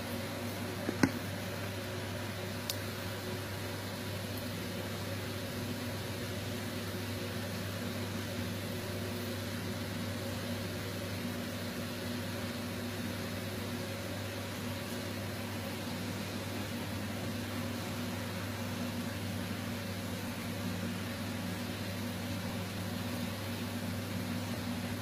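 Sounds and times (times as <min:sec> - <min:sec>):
steady low hum with hiss: 0:00.0 - 0:25.0.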